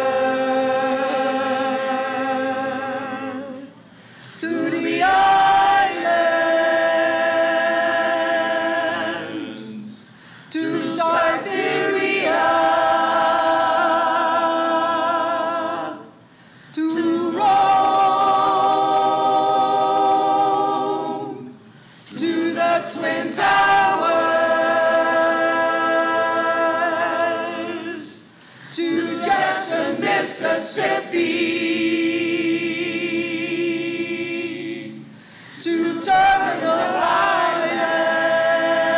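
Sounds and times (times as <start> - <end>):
group singing a cappella: 0.0 - 38.9.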